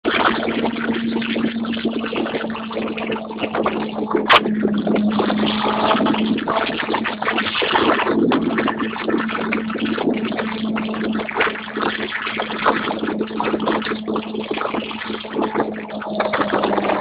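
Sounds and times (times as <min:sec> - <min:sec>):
motorcycle engine drone: 0:00.0 - 0:17.0
wind buffeting microphone: 0:00.0 - 0:17.0.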